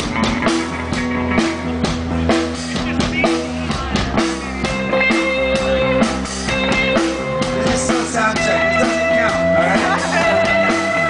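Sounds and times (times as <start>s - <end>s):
drum kit beat: 0.0s - 11.0s
electric guitar: 0.0s - 11.0s.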